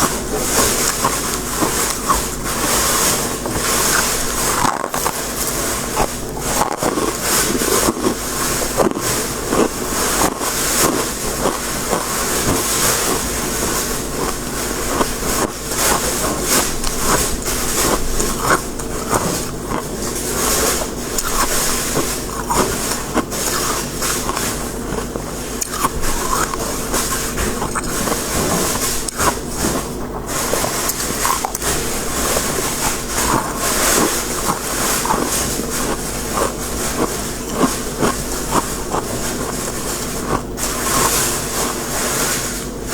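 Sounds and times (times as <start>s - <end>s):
crunching of freezer frost: 0.0s - 42.9s.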